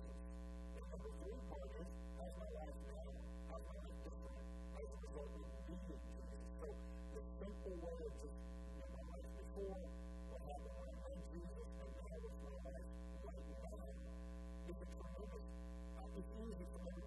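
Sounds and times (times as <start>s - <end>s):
electrical mains hum: 0.0s - 17.0s
faint talking voice: 0.0s - 17.0s.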